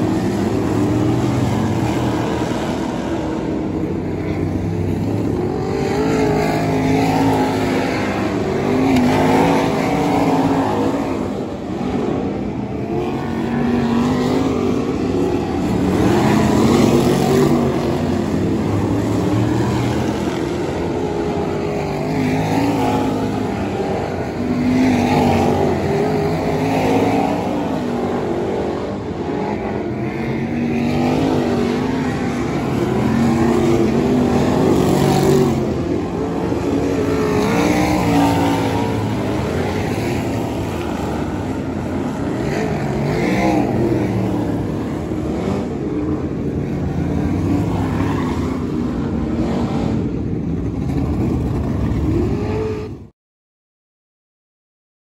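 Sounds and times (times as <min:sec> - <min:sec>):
racing car engines: 0:00.0 - 0:53.1.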